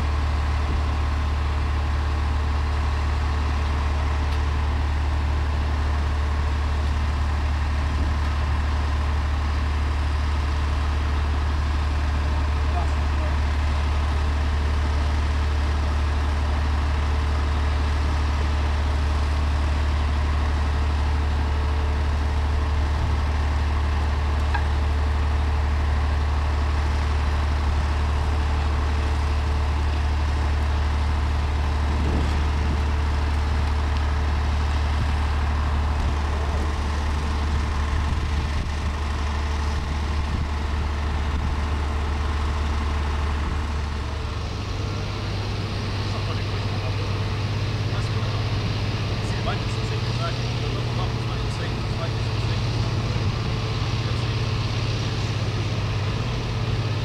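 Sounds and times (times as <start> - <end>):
heavy vehicle engine idling: 0.0 - 57.0.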